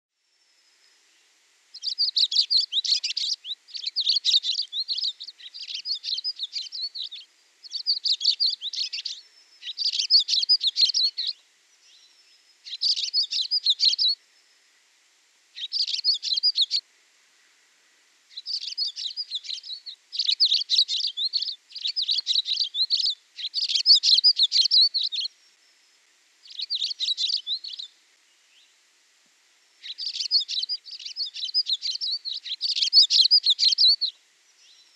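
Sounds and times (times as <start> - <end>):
songbird chirps and trills: 0.2 - 34.9.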